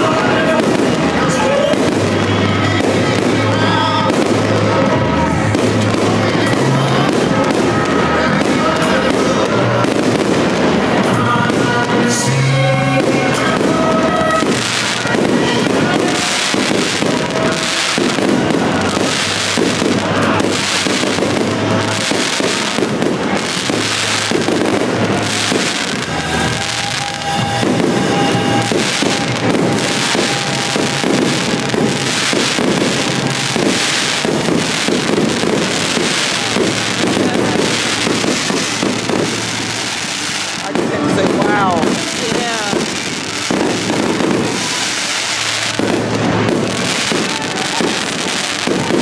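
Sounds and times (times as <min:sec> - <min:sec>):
fireworks bursting: 0:00.0 - 0:49.0
music playing: 0:00.0 - 0:49.0.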